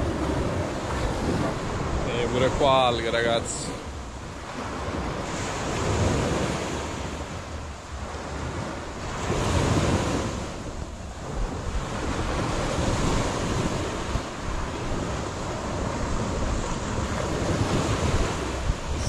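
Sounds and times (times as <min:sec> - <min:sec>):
sea surf washing up beach: 0:00.0 - 0:19.0
wind on microphone: 0:00.0 - 0:19.0.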